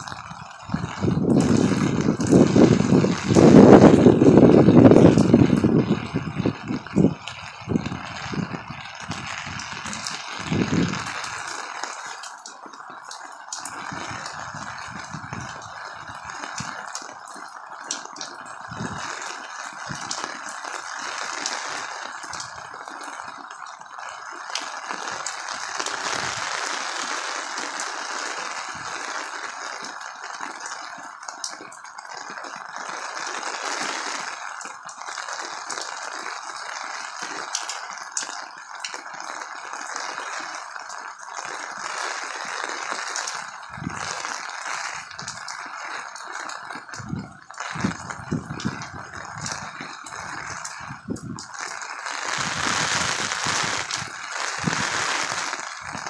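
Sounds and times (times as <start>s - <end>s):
heavy rain hissing: 0.0s - 56.0s
raindrops ticking on surfaces: 0.0s - 56.0s.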